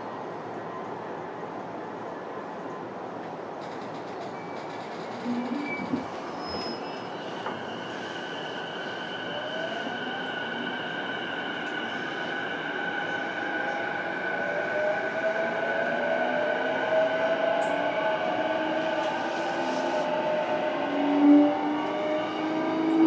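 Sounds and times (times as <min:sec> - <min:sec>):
train rolling noise: 0:00.0 - 0:23.0.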